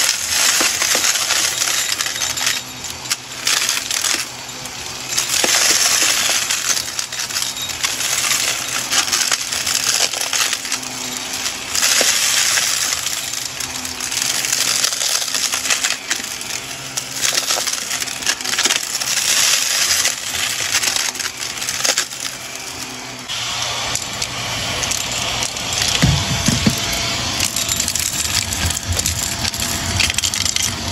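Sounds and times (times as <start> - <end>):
debris crackling up vacuum tube: 0.0 - 30.9
vacuum motor humming: 0.0 - 30.9.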